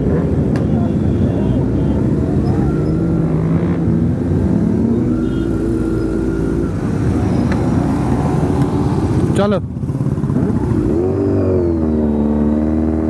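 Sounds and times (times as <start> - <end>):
motorcycle engines running: 0.0 - 13.0
wind and road noise: 0.0 - 13.0.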